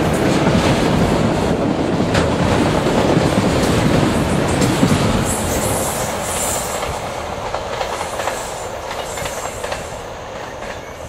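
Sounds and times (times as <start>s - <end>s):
train wheels clacking over rail joints: 0.0s - 11.0s.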